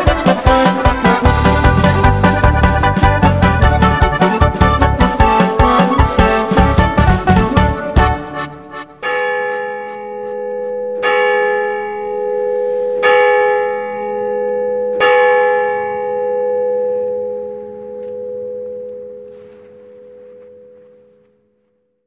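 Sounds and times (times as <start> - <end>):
church bell ringing: 0.0 - 7.0, 7.9 - 21.4.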